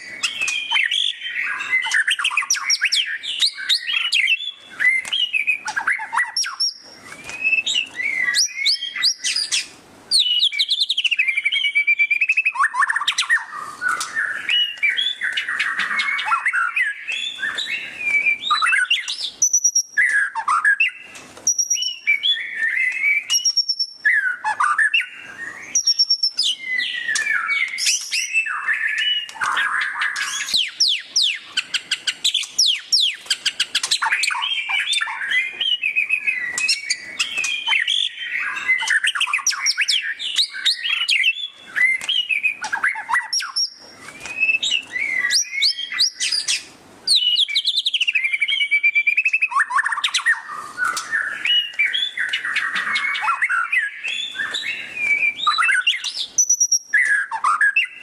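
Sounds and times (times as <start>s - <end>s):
bird singing with trills and whistles: 0.0s - 58.0s.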